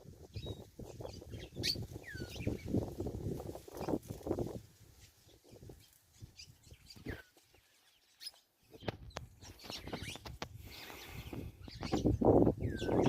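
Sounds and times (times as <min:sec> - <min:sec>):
birds chirping: 0:00.2 - 0:04.3, 0:04.9 - 0:13.0.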